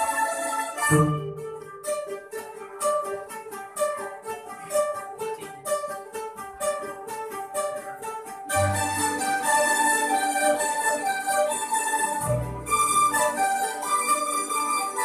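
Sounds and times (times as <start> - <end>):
plucked string ensemble: 0.0 - 15.0.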